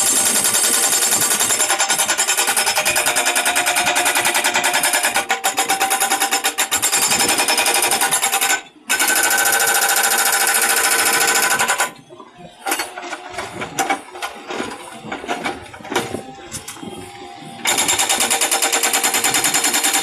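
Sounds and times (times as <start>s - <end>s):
hydraulic breaker hammering concrete: 0.0s - 12.0s, 12.6s - 20.0s.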